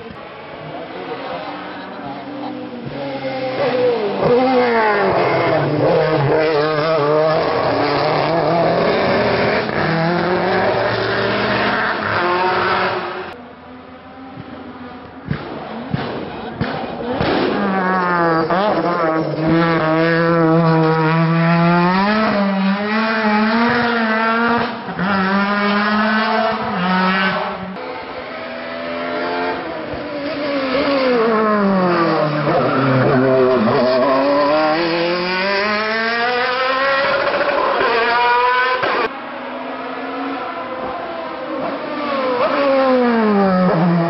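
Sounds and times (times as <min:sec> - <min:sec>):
distant race car engine: 0:00.0 - 0:44.0
race car engines at full throttle: 0:00.0 - 0:44.0.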